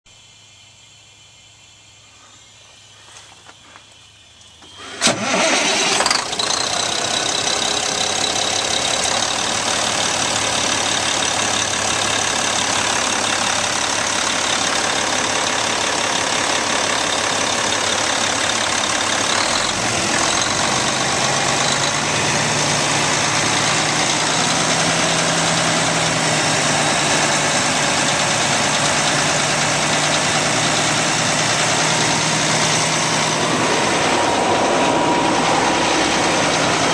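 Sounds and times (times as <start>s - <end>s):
diesel truck engine starting and idling: 4.6s - 36.9s
deep steady hum: 7.1s - 36.9s.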